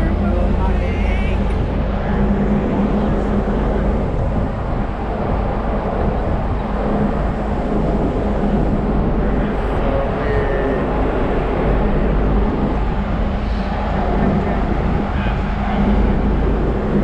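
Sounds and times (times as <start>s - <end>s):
constant hum: 0.0s - 17.0s
ferry engines rumbling: 0.0s - 17.0s.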